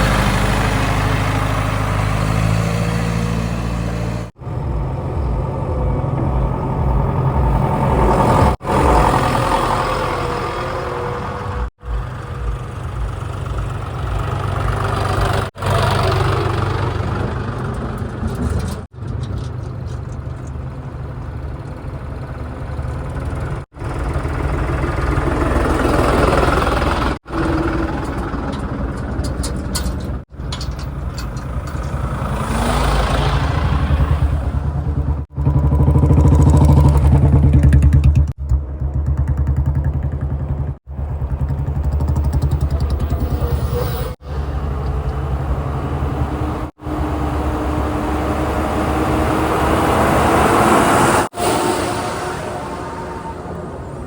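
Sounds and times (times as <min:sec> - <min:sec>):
diesel engines revving: 0:00.0 - 0:54.0.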